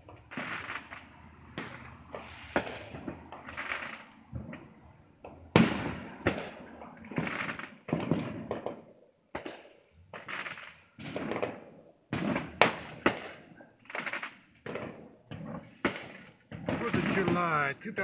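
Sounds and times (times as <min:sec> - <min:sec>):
fireworks bangs echoing: 0:00.0 - 0:18.0.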